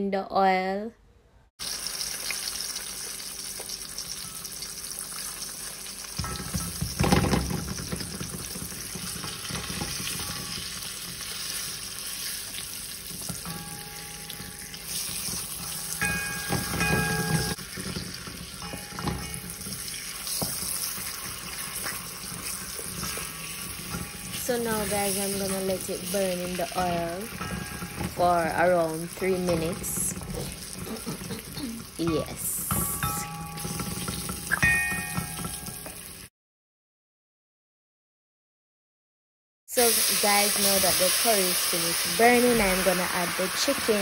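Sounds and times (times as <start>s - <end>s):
hot oil sizzling in a pot: 1.6s - 36.3s, 39.7s - 44.0s.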